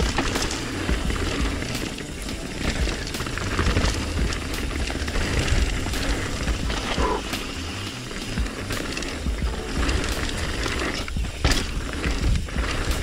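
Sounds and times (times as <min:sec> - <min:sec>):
bike rattling over rocks: 0:00.0 - 0:13.0
wind and rolling noise: 0:00.0 - 0:13.0.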